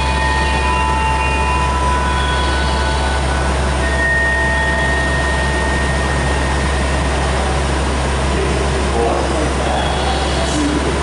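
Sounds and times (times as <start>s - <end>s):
electric train equipment humming: 0.0s - 11.0s
high whine: 0.0s - 11.0s.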